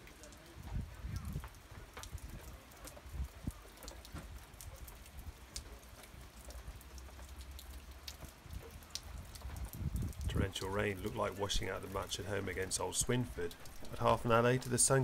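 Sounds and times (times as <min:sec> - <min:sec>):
heavy rain falling: 0:00.0 - 0:15.0
sharp ticks of raindrops: 0:00.0 - 0:15.0.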